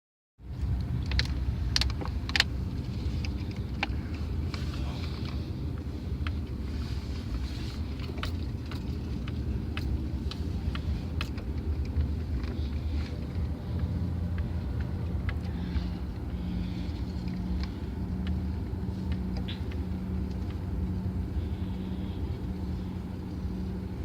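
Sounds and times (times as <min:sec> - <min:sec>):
truck engine and tyres rumbling: 0:00.4 - 0:24.0
sharp rattles and clicks: 0:00.6 - 0:23.9.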